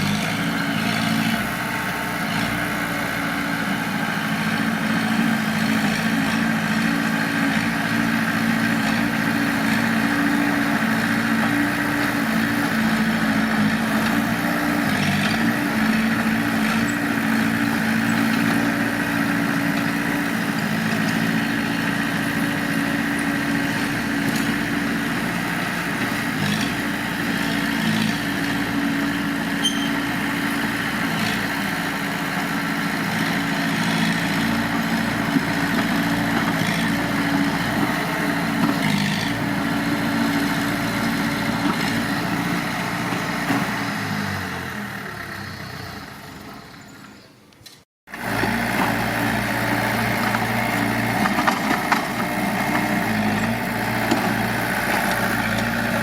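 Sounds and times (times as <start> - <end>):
diesel engine idling: 0.0 - 47.1, 48.2 - 56.0.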